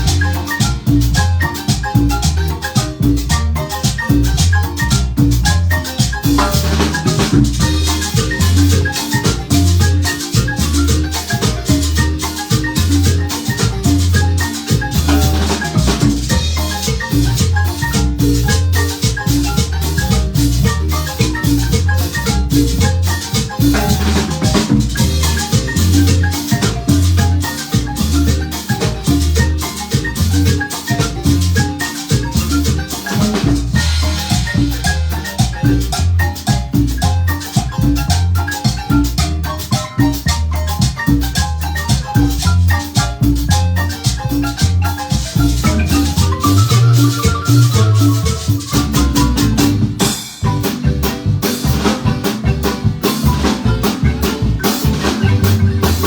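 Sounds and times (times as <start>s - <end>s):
marimba band music: 0.0s - 56.0s.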